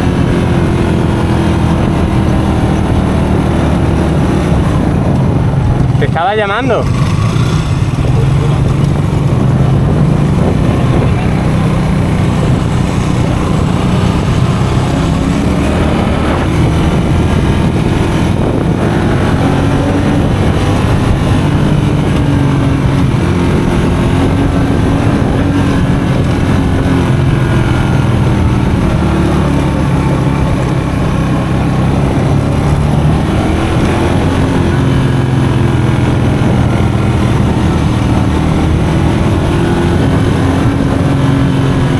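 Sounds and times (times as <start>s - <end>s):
constant rushing noise: 0.0s - 41.9s
motorcycle engine running: 0.0s - 41.9s.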